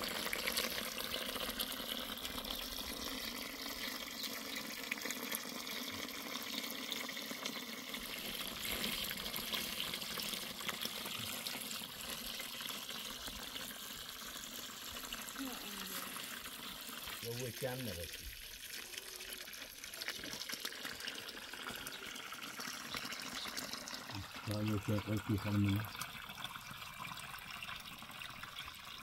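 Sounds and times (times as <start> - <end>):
water running: 0.0 - 29.0.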